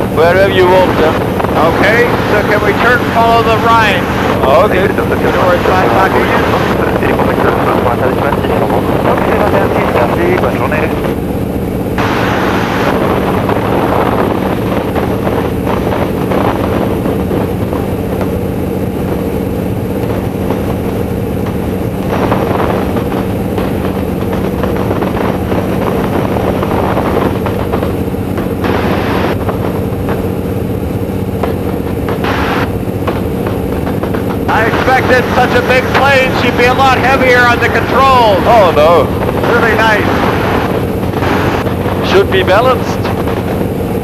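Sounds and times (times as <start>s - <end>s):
biplane engine and propeller: 0.0s - 44.0s
wind rushing over cockpit: 0.0s - 44.0s.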